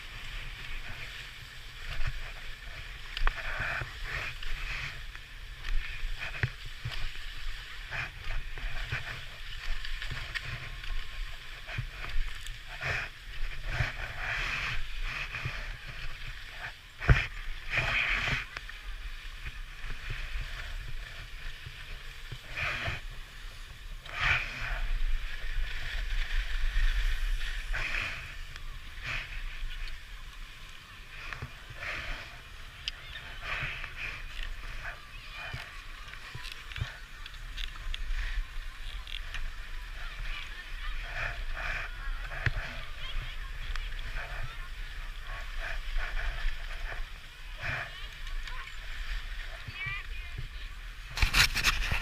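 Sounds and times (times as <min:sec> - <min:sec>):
low wind rumble on microphone: 0:00.0 - 0:52.0
skis scraping over snow: 0:00.0 - 0:52.0.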